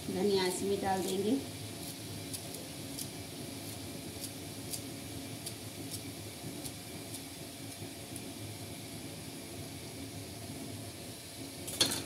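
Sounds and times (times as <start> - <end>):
sauce hissing in a pan: 0.0 - 12.0.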